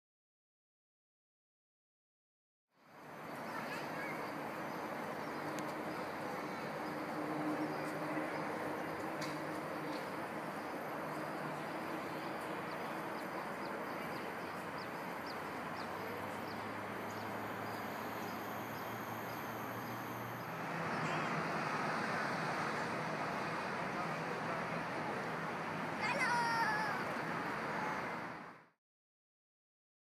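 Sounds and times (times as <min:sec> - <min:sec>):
distant city traffic: 0:02.8 - 0:28.8.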